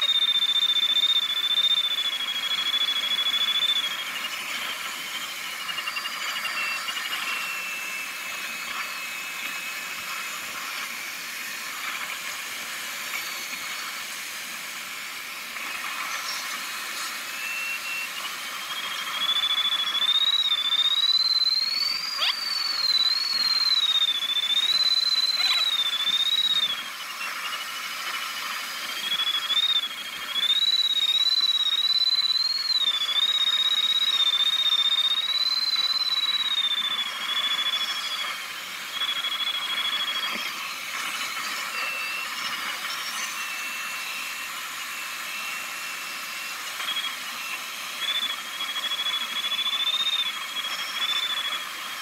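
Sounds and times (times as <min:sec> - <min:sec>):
wavering electronic tone: 0:00.0 - 0:52.0.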